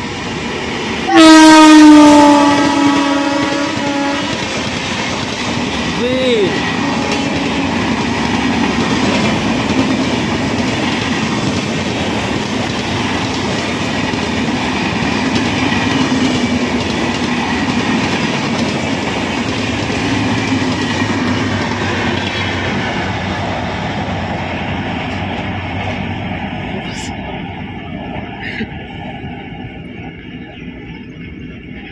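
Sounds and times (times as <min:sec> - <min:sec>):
train wheels on rails: 0:00.0 - 0:31.9.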